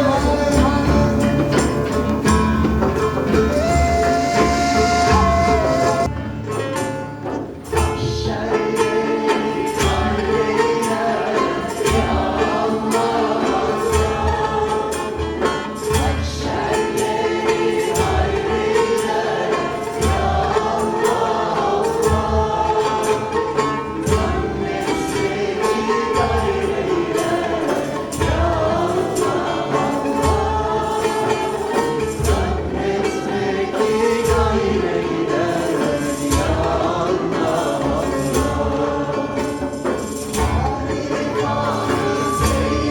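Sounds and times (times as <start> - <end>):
group singing a chant: 0.0 - 6.1, 8.0 - 42.9
hand drum beat with jingles: 0.0 - 42.9.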